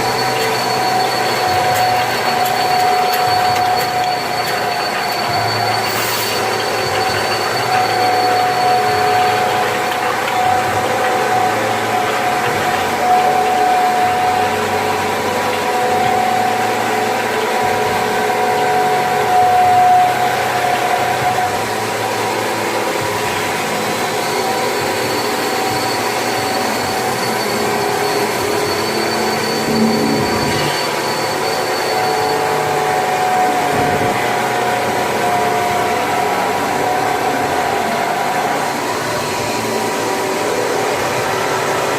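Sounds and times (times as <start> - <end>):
bottle-filling machine humming: 0.0 - 41.9
faint high whine: 0.0 - 41.9.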